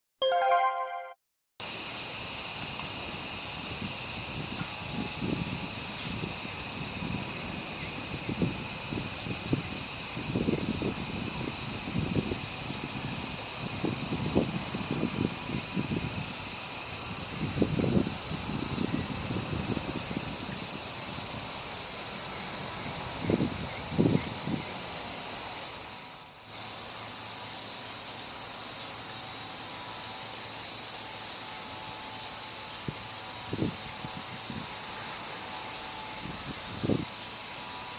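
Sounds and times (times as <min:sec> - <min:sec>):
insects shrilling: 0:01.7 - 0:37.9.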